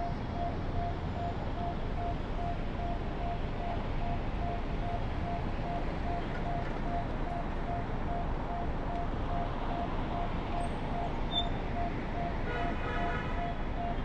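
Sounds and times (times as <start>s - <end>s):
car driving through city traffic: 0.0s - 14.0s.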